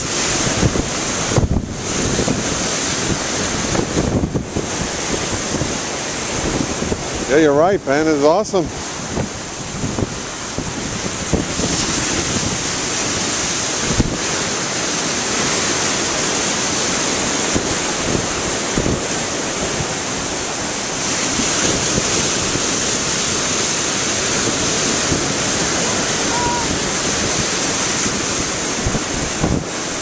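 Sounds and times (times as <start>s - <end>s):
waves breaking over rocks: 0.0s - 30.0s.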